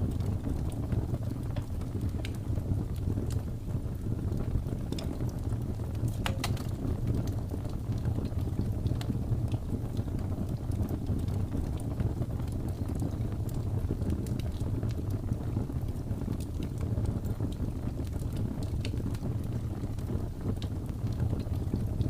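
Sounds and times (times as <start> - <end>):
low rumble of wind: 0.0 - 22.0
wood fire crackling: 0.0 - 22.0.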